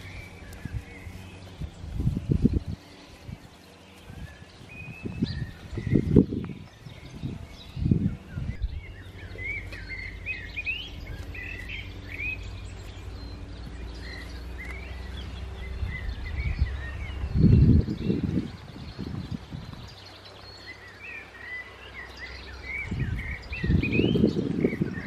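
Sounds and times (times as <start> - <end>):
birds chirping and singing: 0.0 - 25.0
steady low rumble: 0.0 - 25.0.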